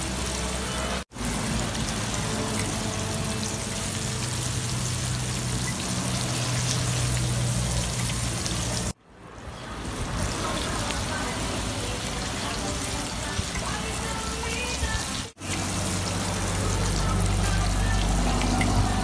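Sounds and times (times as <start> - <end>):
oil sizzling and bubbling: 0.0 - 19.0.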